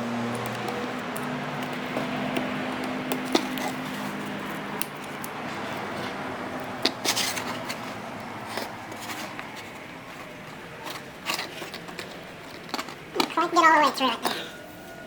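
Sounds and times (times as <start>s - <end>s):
tool cutting and scraping plastic: 0.1s - 14.4s.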